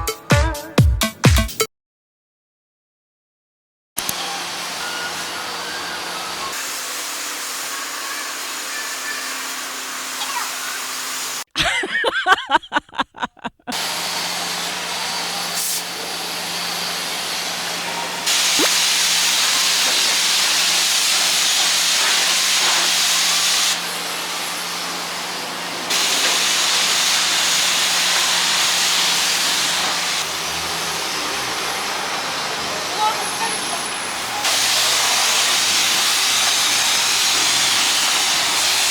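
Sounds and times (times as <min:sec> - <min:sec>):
pressure washer spray hissing: 0:04.0 - 0:11.4, 0:13.8 - 0:38.9.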